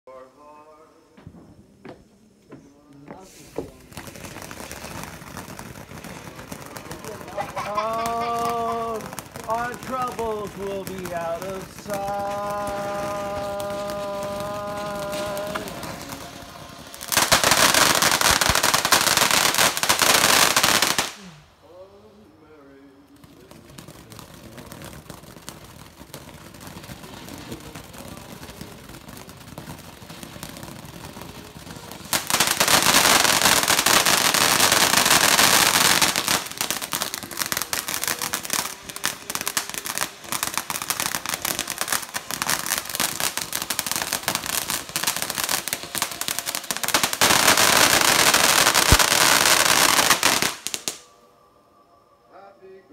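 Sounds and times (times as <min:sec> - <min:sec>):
firework fountain crackling: 0:00.6 - 0:51.2
firework fountain fizzing: 0:03.0 - 0:21.5, 0:23.0 - 0:51.1.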